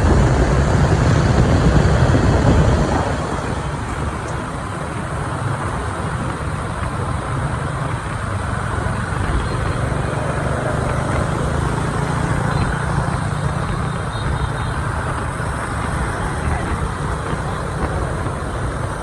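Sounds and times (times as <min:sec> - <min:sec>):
motorbike engine: 0:00.0 - 0:19.0
street traffic: 0:00.0 - 0:19.0.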